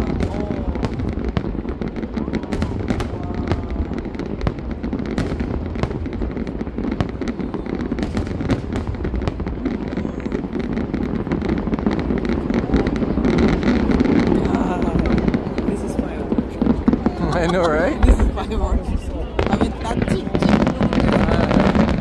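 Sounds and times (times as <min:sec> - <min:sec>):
crackles: 0:00.0 - 0:22.0
fireworks bursting: 0:00.0 - 0:22.0.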